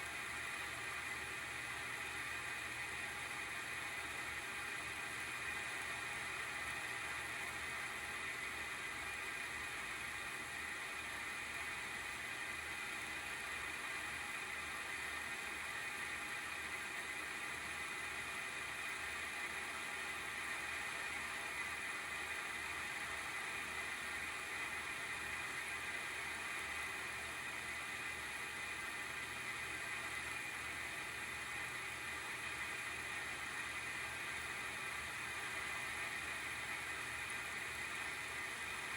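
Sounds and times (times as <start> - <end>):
graphics card fan whirring: 0.0 - 38.9.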